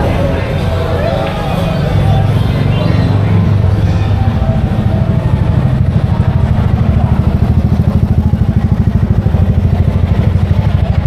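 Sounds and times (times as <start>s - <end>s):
motorbike engine throbbing: 0.0s - 11.0s.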